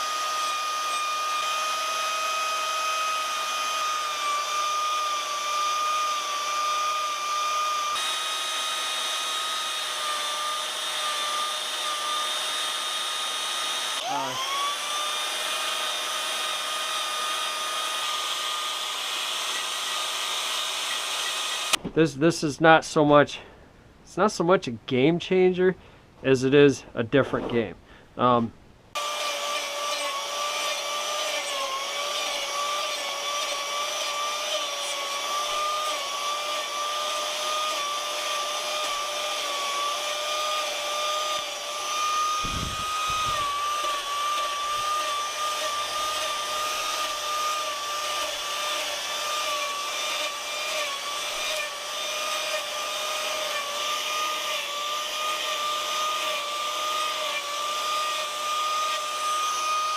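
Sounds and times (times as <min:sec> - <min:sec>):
power carving tool whining: 0:00.0 - 0:21.8, 0:29.0 - 0:59.9.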